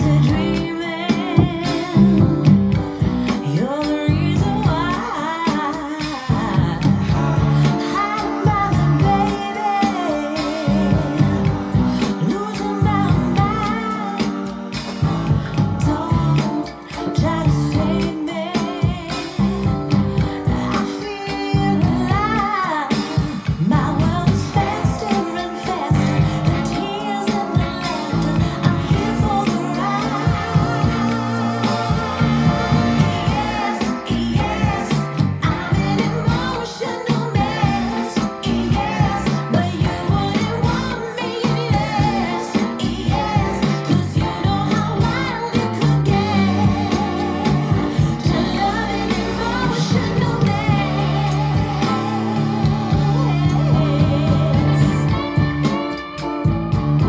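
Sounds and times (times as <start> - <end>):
guitar: 0.0 - 57.0
song with singing and bass: 0.0 - 57.0.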